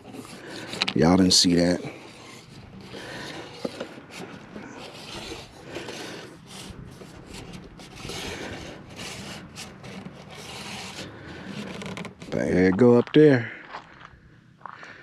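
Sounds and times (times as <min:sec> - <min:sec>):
metal pole sections scraping: 0:00.0 - 0:12.7.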